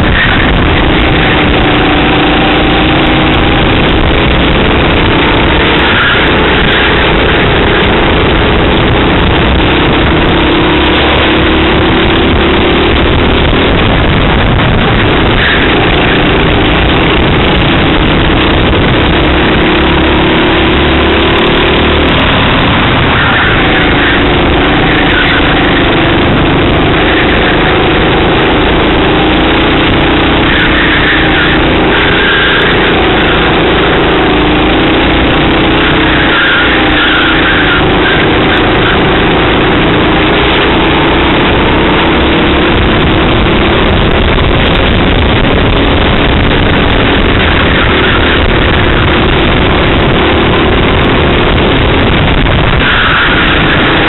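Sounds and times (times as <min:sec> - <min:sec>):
racing kart engine: 0:00.0 - 0:54.0
steady rush of noise: 0:00.0 - 0:54.0.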